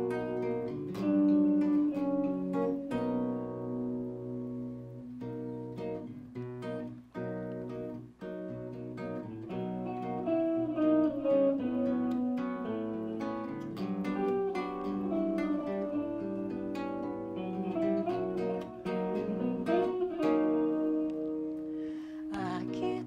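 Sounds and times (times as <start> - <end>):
acoustic guitar: 0.0 - 23.0
electric guitar: 0.0 - 23.0.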